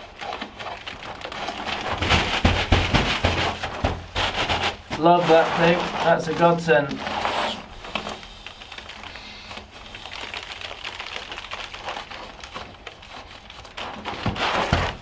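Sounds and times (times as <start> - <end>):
nylon fabric crinkling: 0.0 - 15.0.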